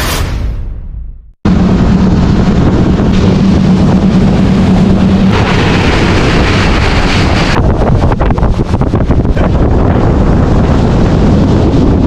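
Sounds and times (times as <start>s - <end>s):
motorboat engine hum: 1.4s - 12.0s
water rushing along hull: 1.5s - 12.0s
wind noise on microphone: 1.5s - 12.0s.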